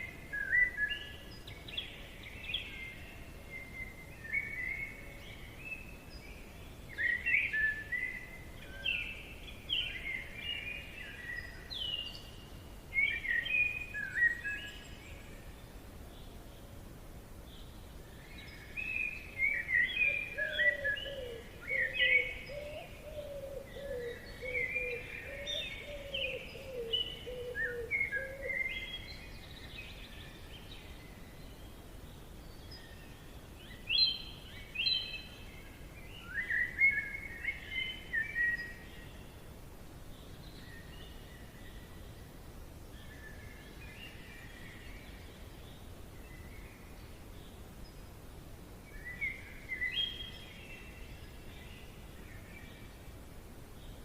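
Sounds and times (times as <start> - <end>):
faint background hiss: 0.0 - 54.0.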